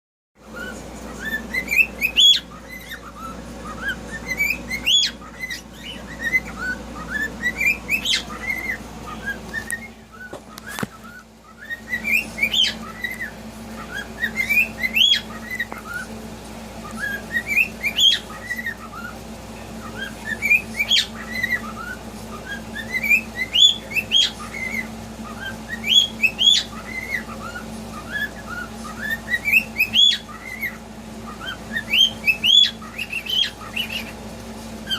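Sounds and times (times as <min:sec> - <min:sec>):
steady low hum: 0:00.4 - 0:34.9
cockatiel whistling a tune: 0:00.5 - 0:16.1, 0:16.8 - 0:19.2, 0:19.8 - 0:34.2.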